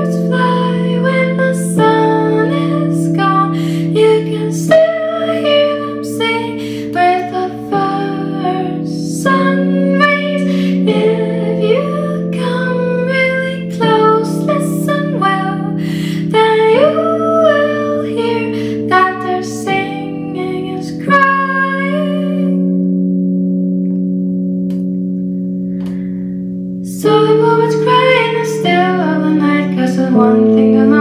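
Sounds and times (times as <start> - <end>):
woman singing: 0.0 - 22.8, 26.8 - 31.0
keyboard chords: 0.0 - 31.0.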